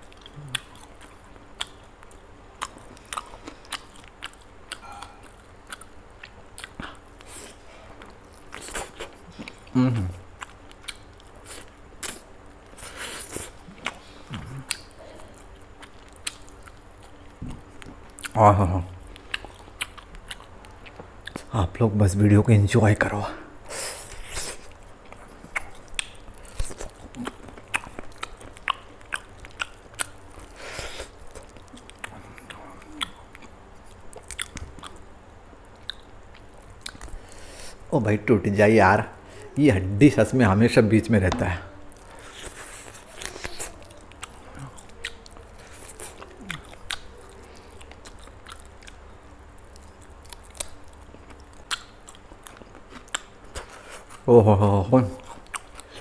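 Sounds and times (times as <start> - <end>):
chewing and biting food: 0.0 - 18.4, 19.0 - 21.5, 24.2 - 35.0, 35.6 - 37.4, 41.9 - 54.3, 55.2 - 56.0.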